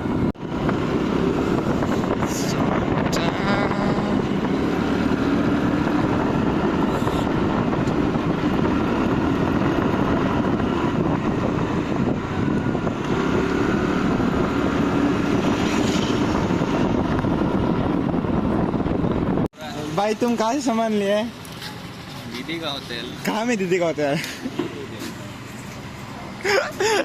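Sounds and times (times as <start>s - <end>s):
road and wind noise: 0.0s - 27.0s
vehicle engine hum: 0.0s - 27.0s.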